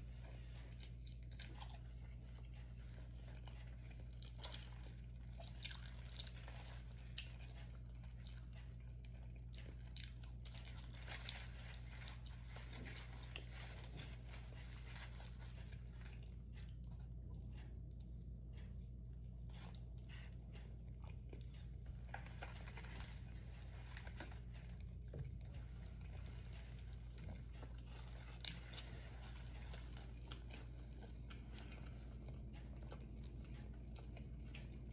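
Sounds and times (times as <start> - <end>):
chewing and biting food: 0.0 - 34.9.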